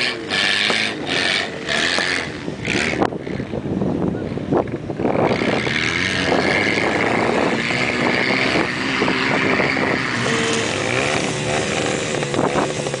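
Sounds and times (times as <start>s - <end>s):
suv engine running: 0.0s - 13.0s.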